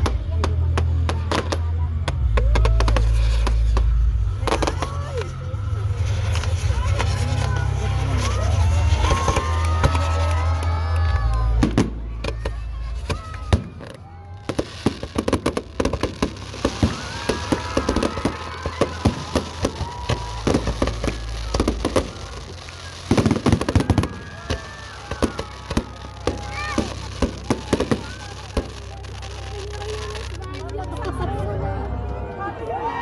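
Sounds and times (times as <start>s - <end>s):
fireworks bangs and crackling: 0.0s - 31.2s
voices of onlookers: 0.0s - 33.0s.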